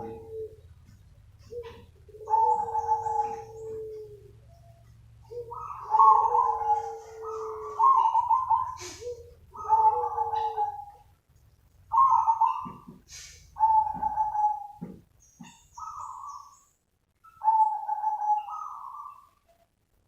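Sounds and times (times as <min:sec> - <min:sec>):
dove cooing: 0:00.0 - 0:11.2, 0:11.8 - 0:16.6, 0:17.2 - 0:19.6.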